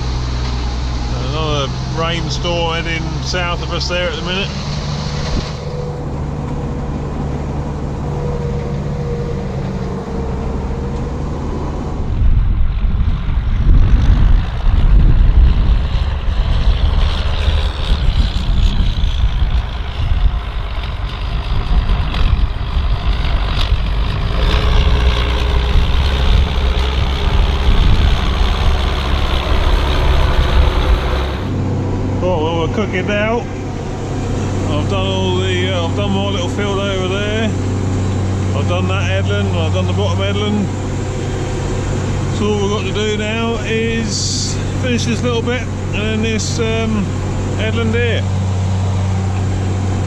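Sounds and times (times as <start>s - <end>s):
buffeting wind: 0.0s - 50.0s
tractor diesel engine: 0.0s - 50.0s.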